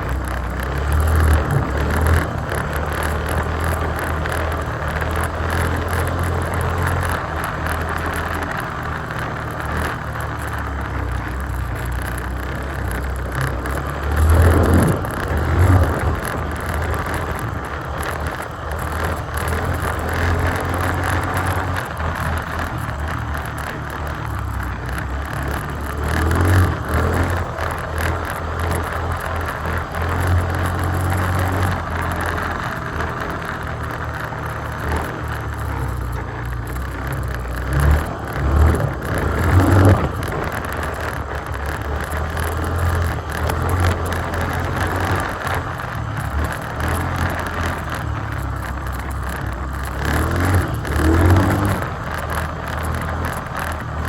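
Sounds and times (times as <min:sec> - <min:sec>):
atv engine running: 0:00.0 - 0:54.0
ground noise: 0:00.0 - 0:54.0.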